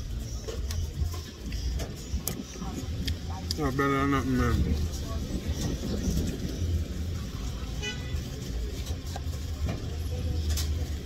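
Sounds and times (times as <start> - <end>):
road vehicle rumble: 0.0 - 11.0.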